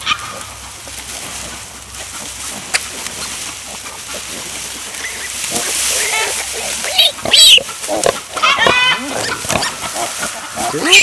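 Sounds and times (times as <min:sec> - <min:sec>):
rustling in straw: 0:00.0 - 0:11.0
pigs grunting softly: 0:00.3 - 0:11.0.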